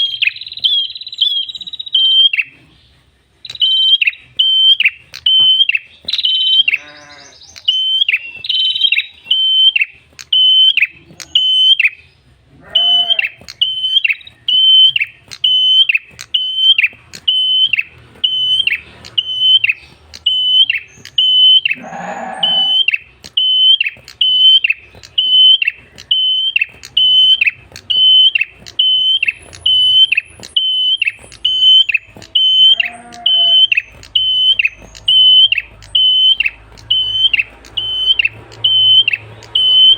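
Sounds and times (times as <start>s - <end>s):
lower harsher bird calls: 0.0s - 39.9s.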